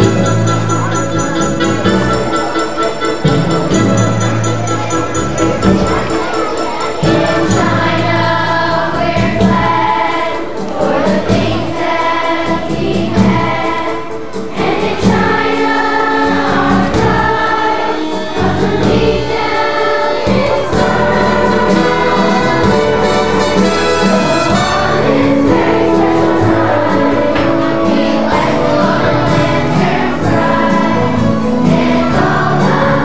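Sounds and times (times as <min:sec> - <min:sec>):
choir singing long held notes: 0:05.9 - 0:33.0.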